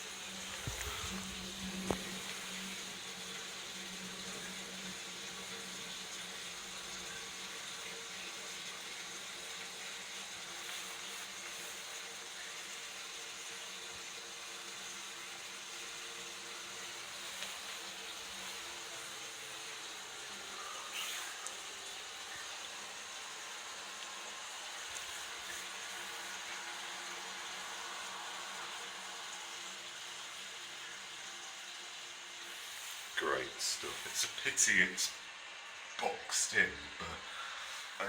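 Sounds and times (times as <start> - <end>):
water hissing into toilet pan: 0.0 - 38.0.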